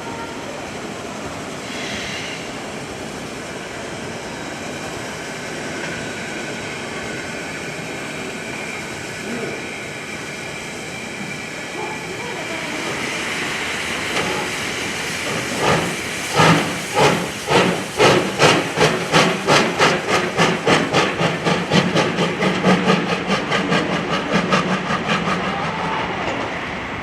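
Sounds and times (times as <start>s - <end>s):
steam hiss: 0.0s - 27.0s
steam locomotive exhaust chuffs: 1.3s - 27.0s.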